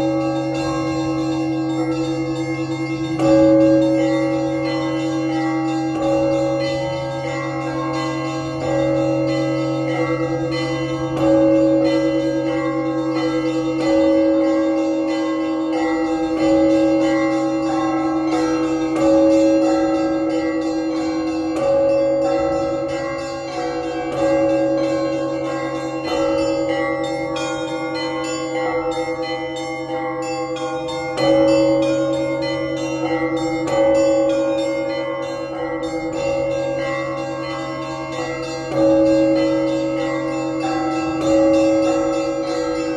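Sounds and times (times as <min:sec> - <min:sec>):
big low church bell: 0:00.0 - 0:42.9
smaller higher bells: 0:00.0 - 0:42.9.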